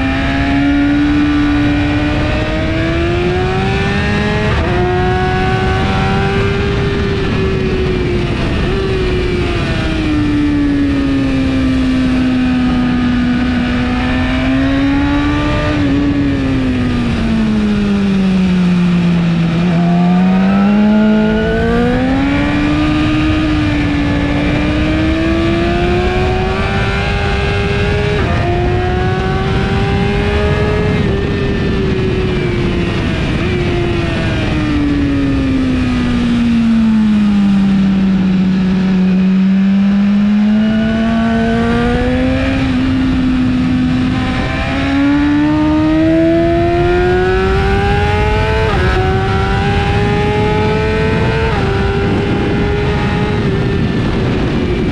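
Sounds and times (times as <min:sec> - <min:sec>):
motorcycle engine revving: 0:00.0 - 0:54.9
wind rush: 0:00.0 - 0:54.9.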